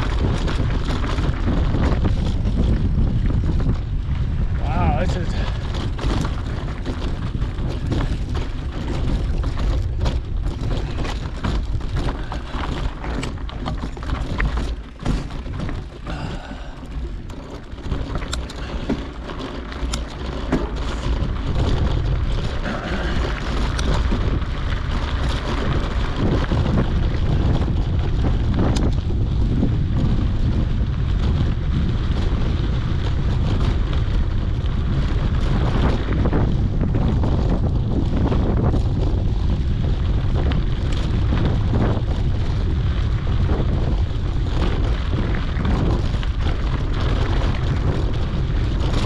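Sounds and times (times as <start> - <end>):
bike clicks and rattles: 0.0 - 49.0
bike rolling over dirt trail: 0.0 - 49.0
wind buffeting microphone: 0.0 - 49.0.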